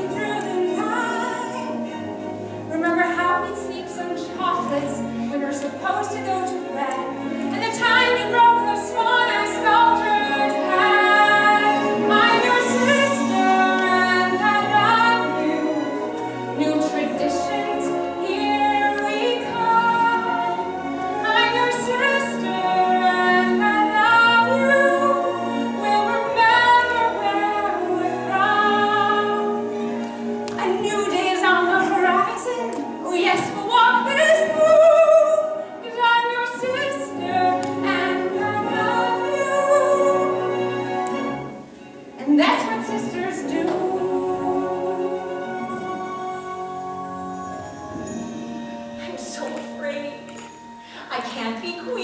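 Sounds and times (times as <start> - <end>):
women singing: 0.0 - 41.5, 42.1 - 48.2.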